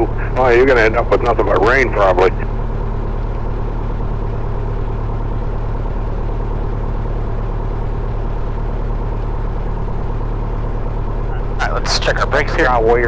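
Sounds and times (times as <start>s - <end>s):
airplane engine idling: 0.0s - 13.0s.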